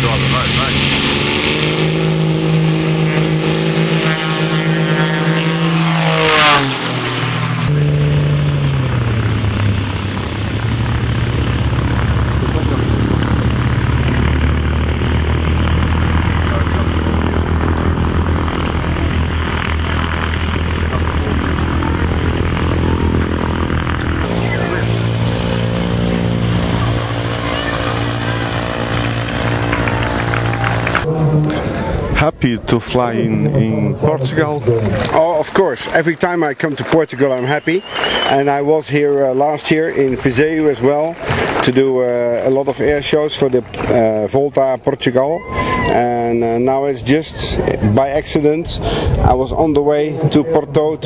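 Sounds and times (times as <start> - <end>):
propeller plane engine passing: 0.0 - 44.8.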